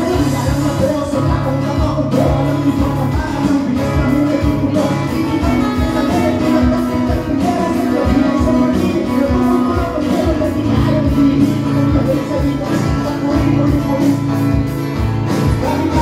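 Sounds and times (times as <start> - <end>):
man singing into a microphone: 0.0 - 16.0
strummed acoustic guitar: 0.0 - 16.0.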